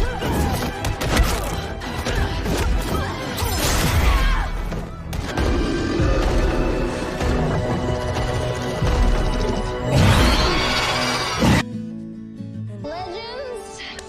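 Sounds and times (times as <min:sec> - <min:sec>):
action score music: 0:00.0 - 0:12.3.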